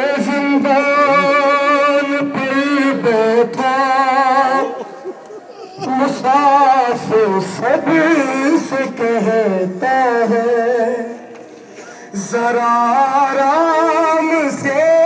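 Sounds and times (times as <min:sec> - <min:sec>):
man singing a lament unaccompanied: 0:00.0 - 0:15.0.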